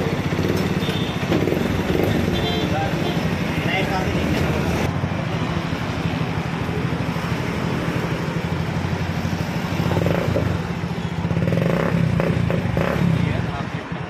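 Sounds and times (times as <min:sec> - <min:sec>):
motorcycle engine idling: 0:00.0 - 0:04.0, 0:04.9 - 0:12.5.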